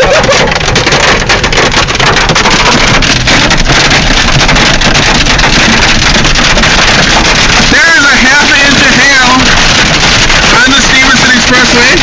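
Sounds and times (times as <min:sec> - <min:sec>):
hailstones pelting car: 0:00.0 - 0:12.0
wind and road noise: 0:00.3 - 0:12.0.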